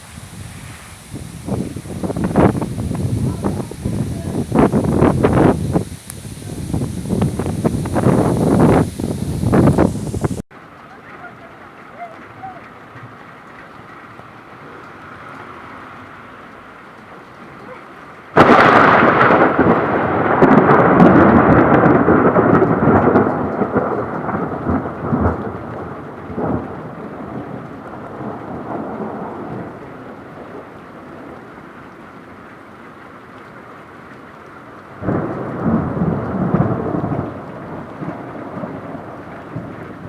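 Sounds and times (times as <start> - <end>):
steady rain: 0.0 - 40.0
thunderclap with crackling rumble: 0.0 - 40.0.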